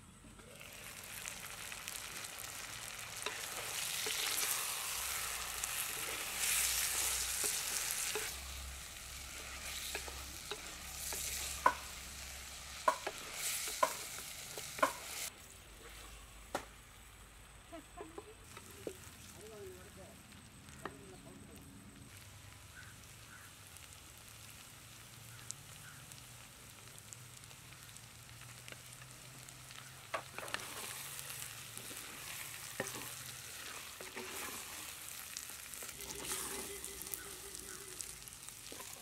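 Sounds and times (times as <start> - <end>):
chicken sizzling in a pot: 0.0 - 39.0.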